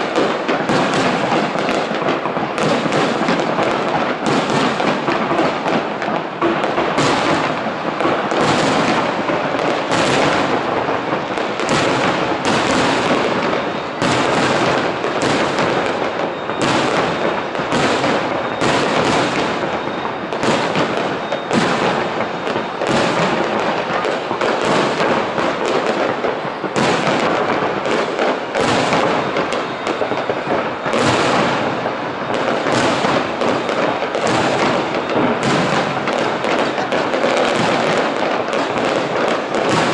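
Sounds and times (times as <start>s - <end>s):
firework shells bursting: 0.0s - 39.9s
fireworks crackle and rumble: 0.0s - 39.9s.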